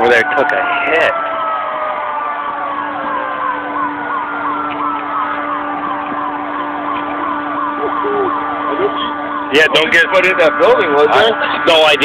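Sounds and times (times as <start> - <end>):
siren fast yelp: 0.0 - 12.0
siren winding down: 0.0 - 12.0.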